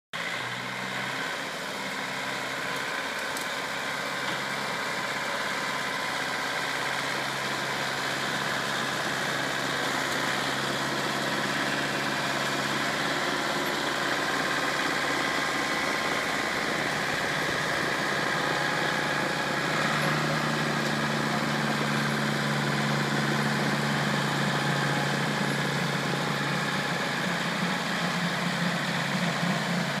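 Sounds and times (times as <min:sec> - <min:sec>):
snow blower impeller whirring: 0:00.2 - 0:30.0
tractor engine running: 0:00.2 - 0:30.0.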